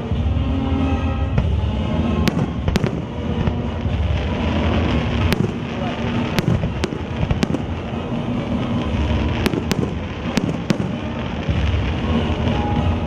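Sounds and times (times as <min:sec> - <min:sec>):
fireworks rumbling bursts: 0:00.0 - 0:13.0
sharp firework cracks: 0:02.3 - 0:12.8.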